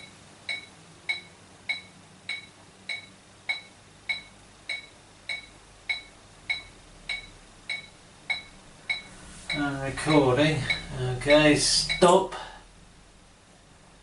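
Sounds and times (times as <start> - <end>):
metronome clicks: 0.0 - 12.1.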